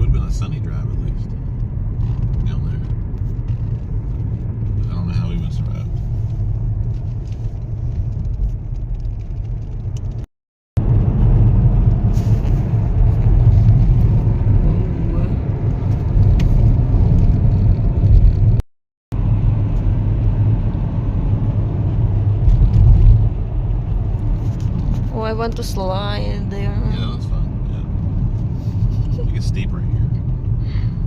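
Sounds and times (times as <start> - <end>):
car road noise inside cabin: 0.0 - 31.0.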